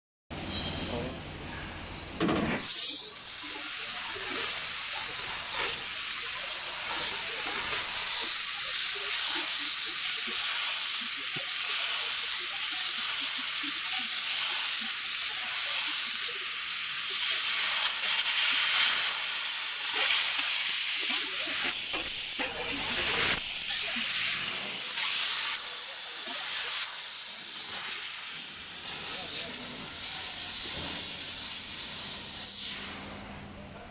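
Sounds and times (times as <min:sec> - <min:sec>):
laser cutter gas jet hissing: 0:02.6 - 0:33.4.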